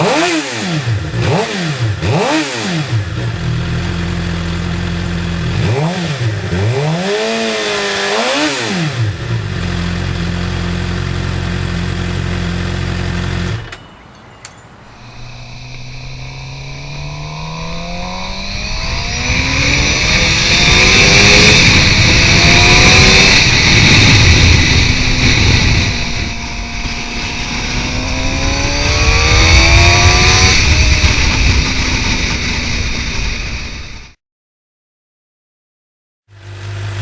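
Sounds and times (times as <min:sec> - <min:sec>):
motorcycle engine revving: 0:00.0 - 0:13.8, 0:14.8 - 0:34.2, 0:36.3 - 0:37.0.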